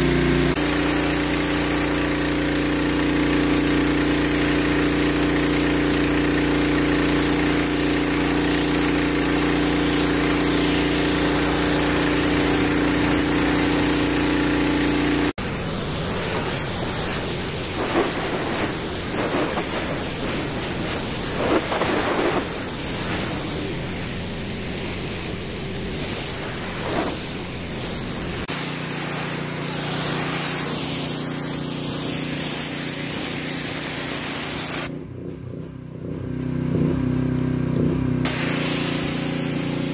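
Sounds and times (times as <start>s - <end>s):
pressure washer engine humming: 0.0s - 34.9s, 38.3s - 39.9s
water jet hissing: 0.0s - 34.9s, 38.3s - 39.9s
water spray splattering: 0.0s - 34.9s, 38.3s - 39.9s.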